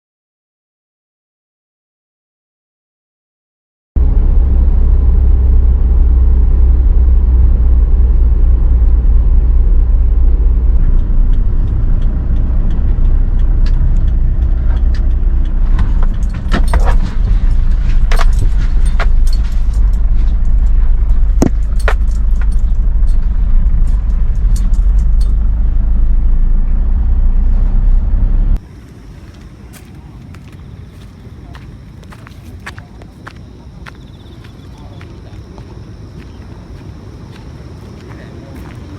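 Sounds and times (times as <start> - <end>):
wind and surf rumble: 4.0 - 38.9.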